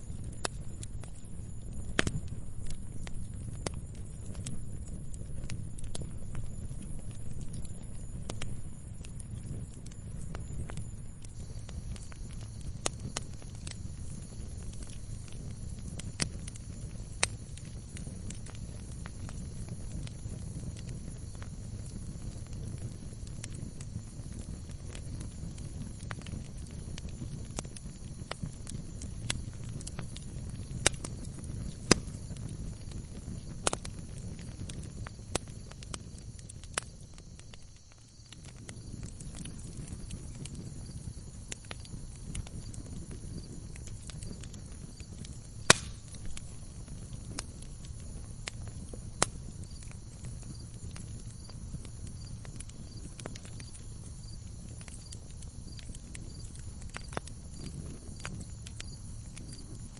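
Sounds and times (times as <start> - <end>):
fire rushing: 0.0 - 59.9
logs crackling and popping: 0.0 - 59.9.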